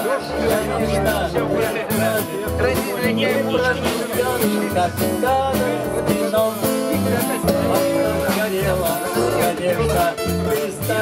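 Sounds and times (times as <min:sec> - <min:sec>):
folk band playing: 0:00.0 - 0:11.0.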